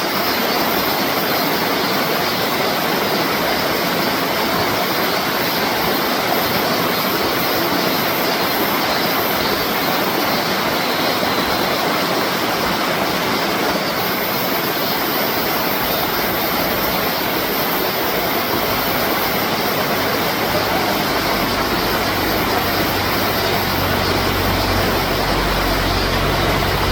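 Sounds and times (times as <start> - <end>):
water rushing over rocks: 0.0 - 26.9.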